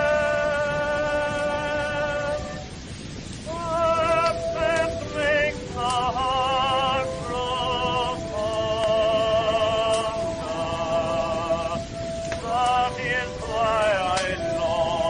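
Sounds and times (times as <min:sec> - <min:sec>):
old recording of vibrato melody: 0:00.0 - 0:15.0
steady hiss: 0:00.0 - 0:15.0.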